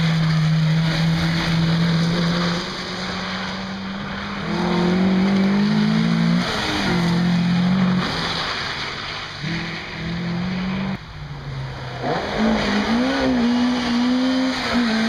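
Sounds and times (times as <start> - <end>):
rally car engines at high revs: 0.0 - 15.0.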